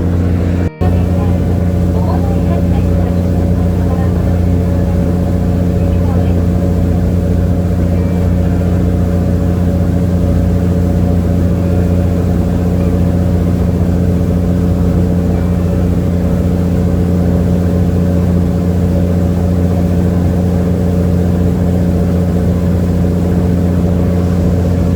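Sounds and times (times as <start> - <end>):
boat engine humming: 0.0 - 24.9.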